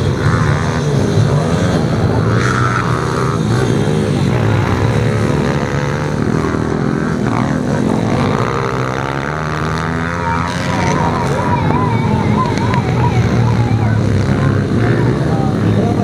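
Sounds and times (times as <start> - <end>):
pit bike engines revving: 0.0 - 16.0.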